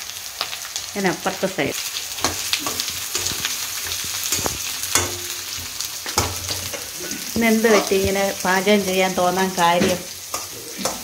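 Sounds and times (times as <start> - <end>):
food sizzling in hot oil: 0.0 - 11.0
metal spatula scraping pan: 2.2 - 11.0.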